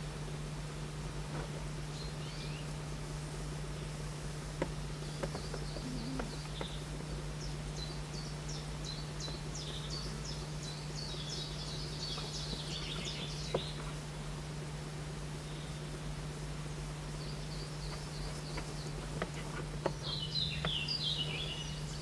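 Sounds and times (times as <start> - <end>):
steady low hum: 0.0 - 22.0
songbird singing: 1.4 - 14.4, 15.1 - 22.0.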